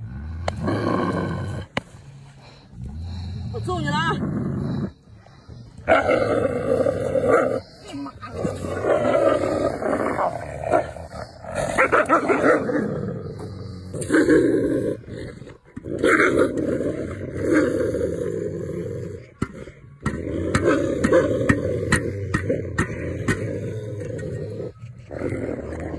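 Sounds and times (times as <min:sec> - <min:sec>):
wolves growling and snarling: 0:00.0 - 0:25.9.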